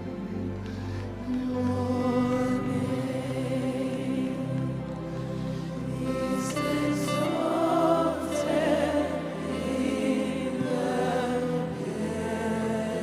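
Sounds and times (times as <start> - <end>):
held chords: 0.0 - 13.0
choir of voices singing: 1.1 - 13.0.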